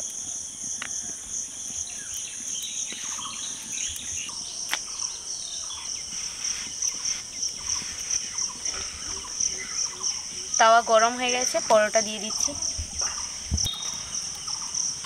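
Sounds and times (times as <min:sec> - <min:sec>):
birds chirping: 0:00.0 - 0:15.0
insect chorus: 0:00.0 - 0:15.0.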